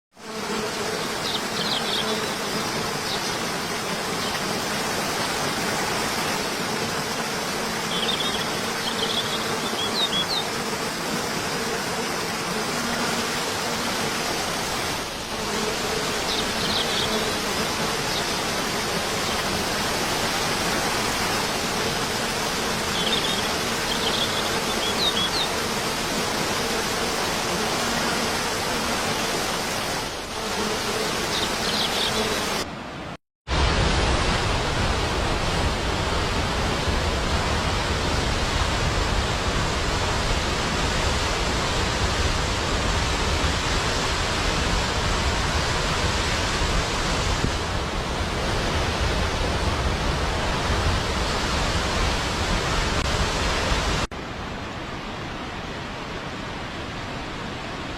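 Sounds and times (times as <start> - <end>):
waterfall rushing: 1.0 - 30.4, 31.0 - 57.9.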